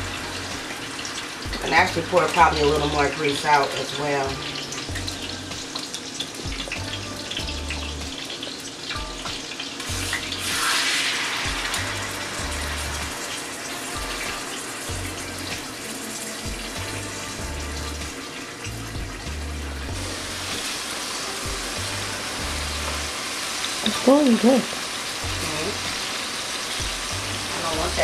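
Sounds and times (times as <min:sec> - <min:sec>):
steaks sizzling in a skillet: 0:00.0 - 0:28.0.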